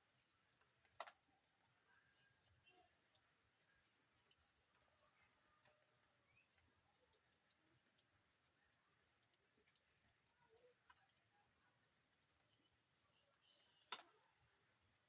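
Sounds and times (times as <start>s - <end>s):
low steady hiss: 0.0s - 15.0s
rain drops ticking: 0.0s - 15.0s.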